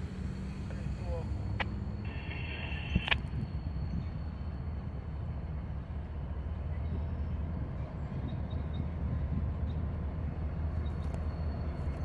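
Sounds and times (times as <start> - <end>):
diesel train rumbling: 0.0 - 12.0.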